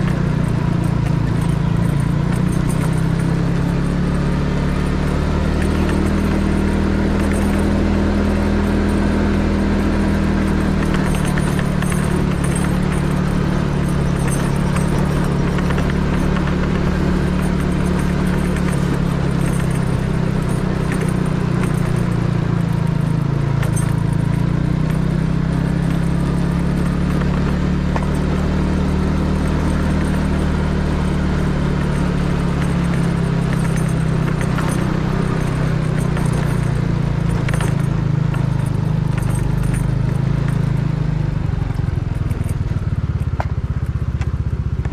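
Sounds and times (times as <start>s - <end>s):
road noise: 0.0s - 44.9s
scooter engine running: 0.0s - 44.9s.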